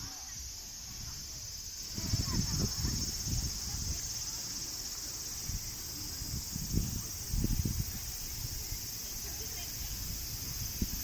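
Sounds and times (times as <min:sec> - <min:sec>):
crickets chirping: 0:00.0 - 0:11.0
wind buffeting microphone: 0:00.0 - 0:11.0.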